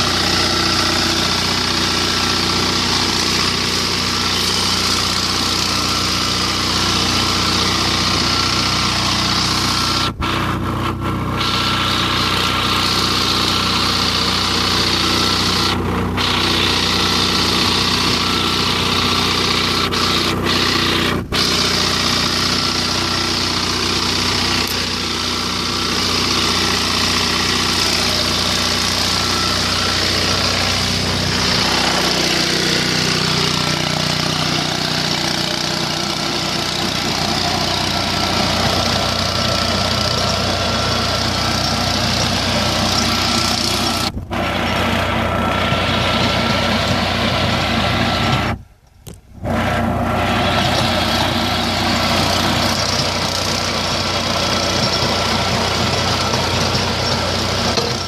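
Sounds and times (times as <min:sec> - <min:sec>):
tractor diesel engine drone: 0:00.0 - 0:58.0.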